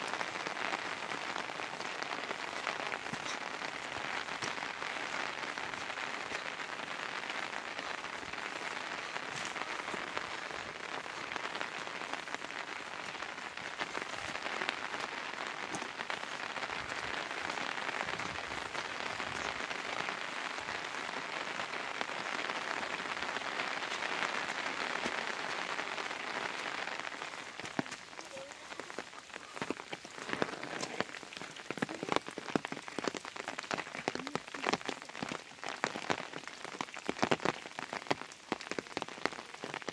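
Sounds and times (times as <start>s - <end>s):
water dripping and pattering: 0.0s - 39.9s.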